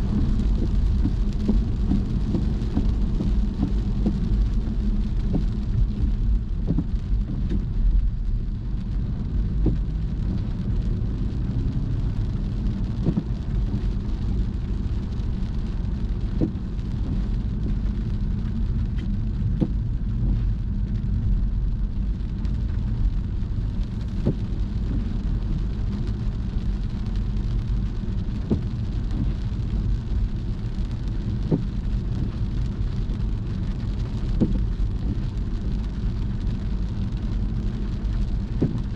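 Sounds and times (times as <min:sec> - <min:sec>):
car road and engine rumble: 0:00.0 - 0:38.9
rain on car: 0:00.0 - 0:38.9.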